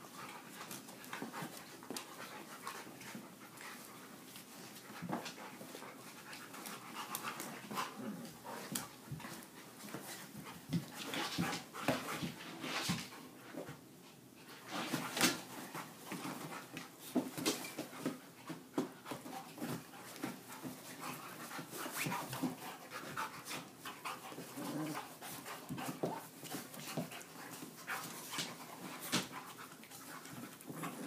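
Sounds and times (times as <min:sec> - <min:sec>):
dogs scuffling: 0:00.1 - 0:13.8, 0:14.5 - 0:31.0.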